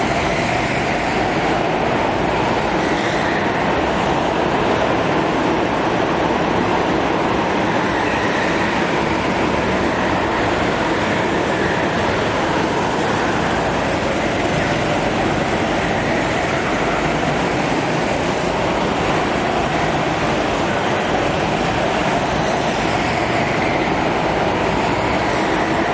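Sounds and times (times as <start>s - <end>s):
go-kart engines racing: 0.0s - 25.9s.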